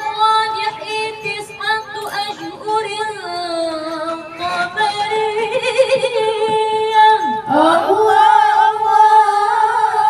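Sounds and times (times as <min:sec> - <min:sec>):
women singing unaccompanied: 0:00.0 - 0:10.0.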